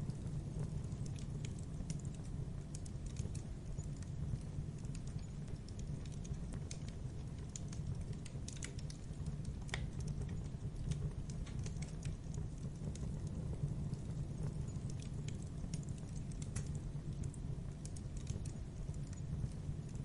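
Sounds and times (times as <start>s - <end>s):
campfire crackling: 0.0s - 20.0s
low rumble of burning: 0.0s - 20.0s.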